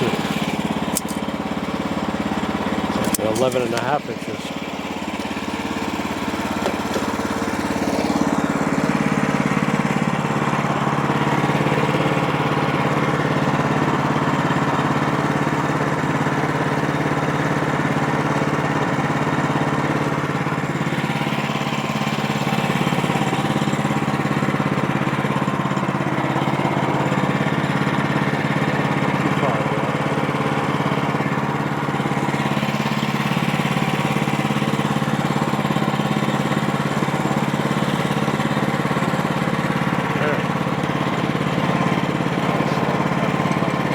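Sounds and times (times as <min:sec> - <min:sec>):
saw cutting through log: 0:00.0 - 0:43.9
sawmill engine running: 0:00.0 - 0:43.9.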